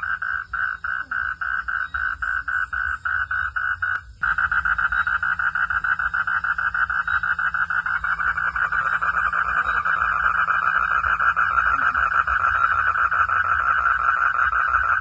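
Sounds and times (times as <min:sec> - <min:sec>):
frog calling in pulses: 0:00.0 - 0:15.0
steady low hum: 0:00.0 - 0:15.0.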